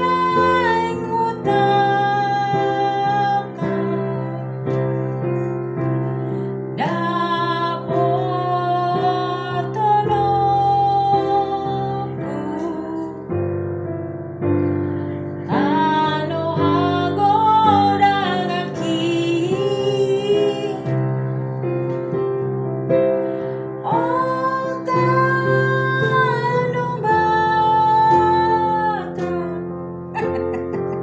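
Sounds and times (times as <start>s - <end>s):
woman singing: 0.0s - 5.5s, 6.4s - 13.5s, 15.0s - 21.3s, 23.8s - 31.0s
digital piano chords: 0.0s - 31.0s.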